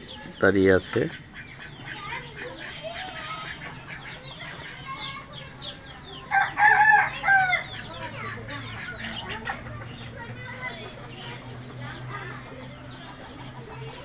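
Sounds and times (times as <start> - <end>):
chickens clucking and chirping: 0.0 - 14.0.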